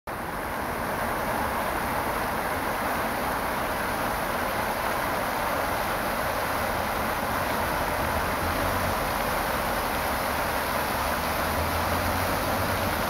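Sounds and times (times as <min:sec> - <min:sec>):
fountain water splashing: 0:00.1 - 0:13.0.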